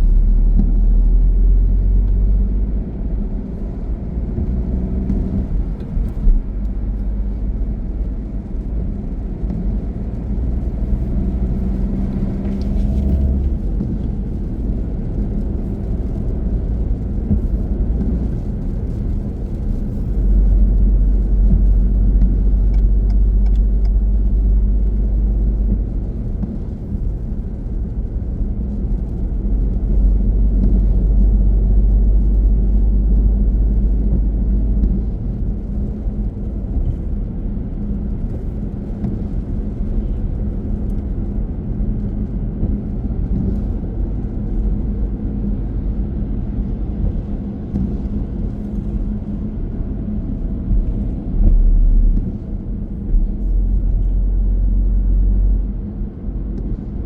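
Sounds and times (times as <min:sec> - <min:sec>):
car tyres and engine rumble: 0:00.0 - 0:57.0
heavy deep rumble: 0:00.0 - 0:57.0.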